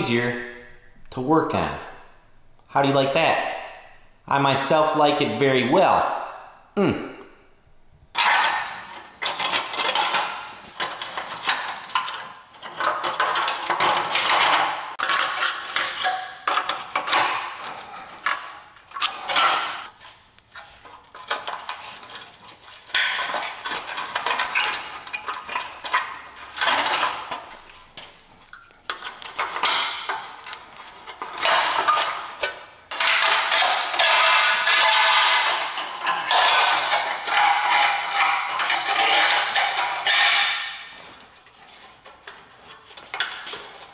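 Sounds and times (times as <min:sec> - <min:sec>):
wiring rustling and scraping: 0:08.1 - 0:43.9
metal tool clinking and scraping: 0:08.2 - 0:43.9.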